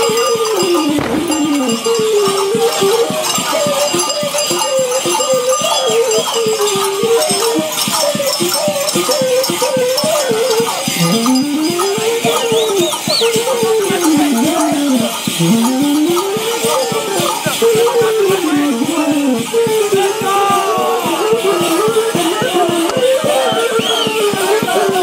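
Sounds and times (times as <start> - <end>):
high whistled glides: 0.0 - 25.0
rattles and bells jangling: 0.0 - 25.0
wavering melody: 0.0 - 25.0.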